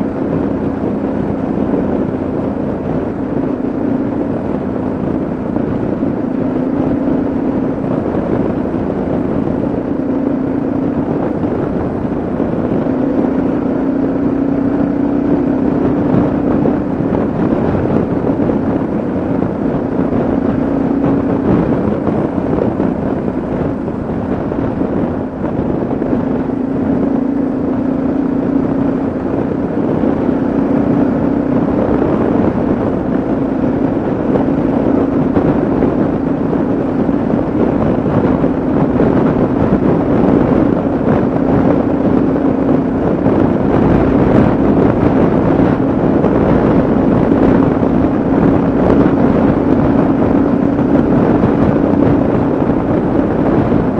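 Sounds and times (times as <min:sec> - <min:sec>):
motorcycle engine cruising: 0:00.0 - 0:53.9
wind rushing over microphone: 0:00.0 - 0:53.9.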